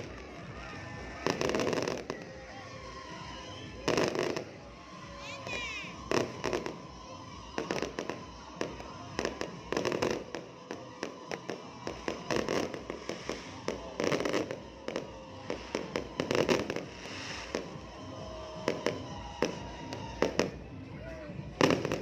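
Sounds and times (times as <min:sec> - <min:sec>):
fireworks and firecrackers banging: 0:00.0 - 0:22.0.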